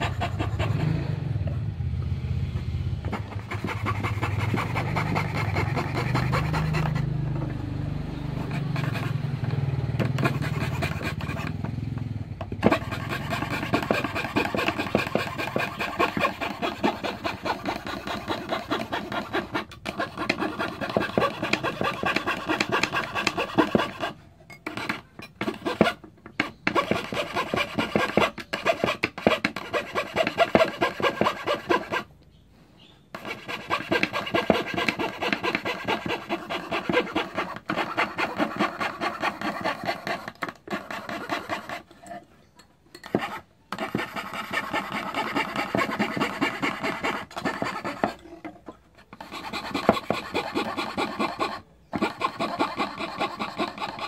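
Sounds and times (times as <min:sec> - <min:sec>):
hand fretsaw sawing: 0:00.0 - 0:01.1, 0:03.1 - 0:07.6, 0:08.2 - 0:11.7, 0:12.4 - 0:32.1, 0:33.2 - 0:42.3, 0:43.0 - 0:54.0.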